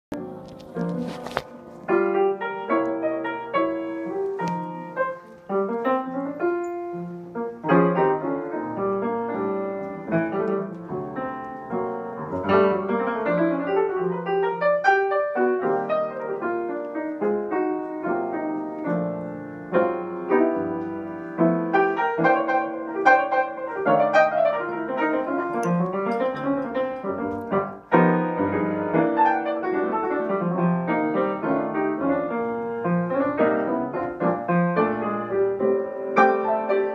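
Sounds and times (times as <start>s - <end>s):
piano music: 0.1s - 36.9s.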